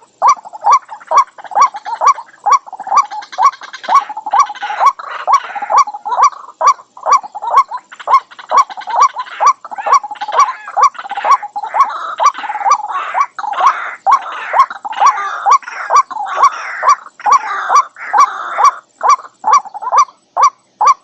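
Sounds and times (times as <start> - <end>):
bird harsh croaking calls: 0.0 - 21.0.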